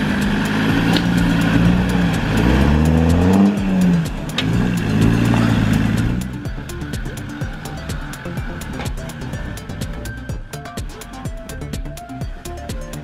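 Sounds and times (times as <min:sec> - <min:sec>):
car engine revving: 0:00.0 - 0:12.1.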